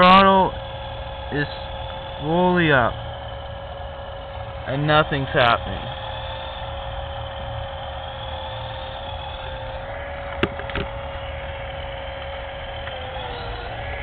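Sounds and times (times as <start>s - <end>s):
toy helicopter motor whining: 0.0s - 14.0s.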